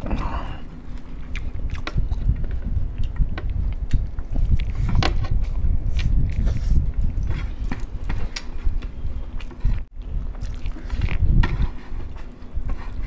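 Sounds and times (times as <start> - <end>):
person chewing rice: 0.0 - 4.9, 6.0 - 13.0.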